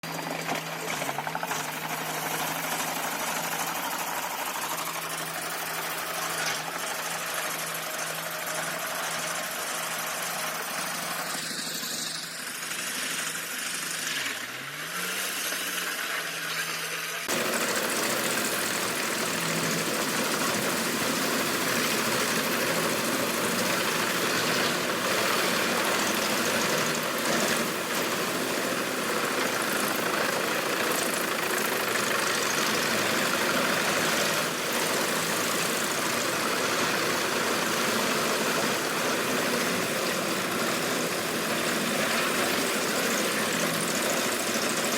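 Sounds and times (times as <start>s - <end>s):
loud noisy machine sound: 0.0s - 44.9s
wood chipper engine running: 0.0s - 44.9s.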